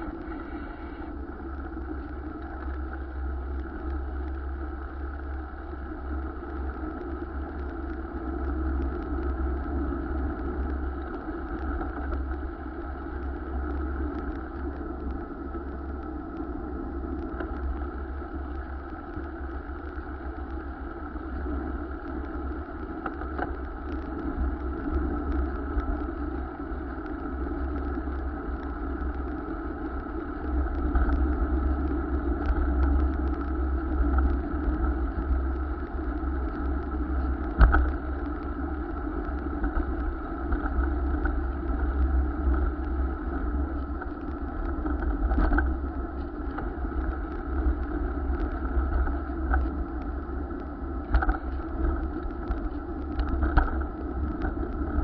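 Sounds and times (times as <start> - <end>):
bicycle road noise: 0.0 - 55.0.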